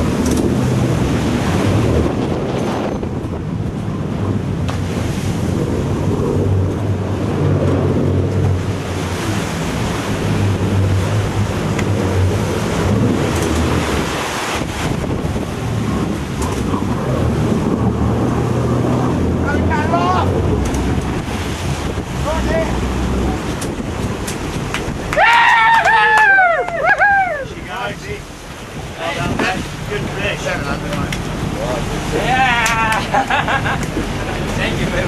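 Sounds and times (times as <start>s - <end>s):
boat engine drone: 0.0s - 35.0s
rushing boat wake: 0.0s - 35.0s
wind buffeting microphone: 0.0s - 35.0s.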